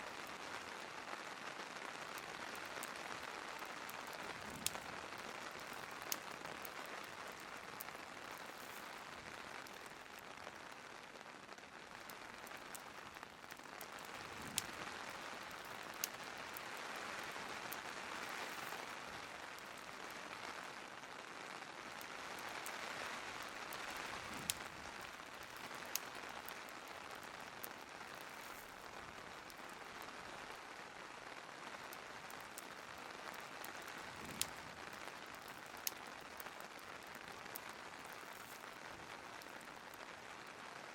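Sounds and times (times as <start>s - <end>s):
fireplace crackling and popping: 0.0s - 40.9s
steady rain: 0.0s - 40.9s.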